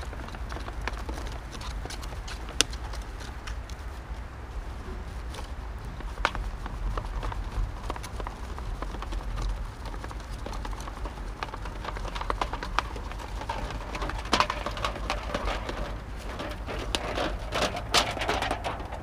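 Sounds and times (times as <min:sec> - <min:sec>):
metal sheet ticking and crinkling: 0:00.0 - 0:04.0, 0:05.2 - 0:19.0.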